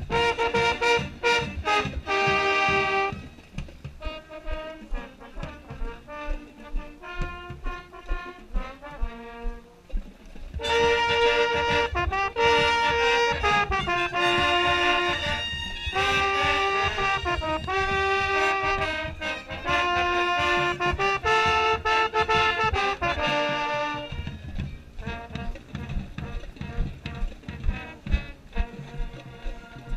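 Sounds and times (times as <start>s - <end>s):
marching band brass playing: 0.0s - 29.9s.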